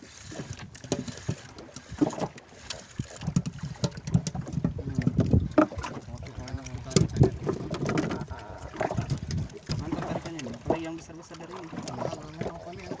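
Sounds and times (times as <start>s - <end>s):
fishing rods and reels clicking: 0.0s - 13.0s.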